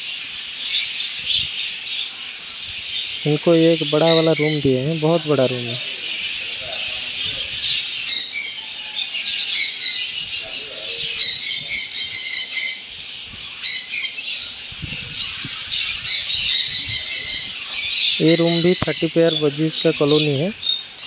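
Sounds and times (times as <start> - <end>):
parrots chattering and squawking: 0.0 - 21.0.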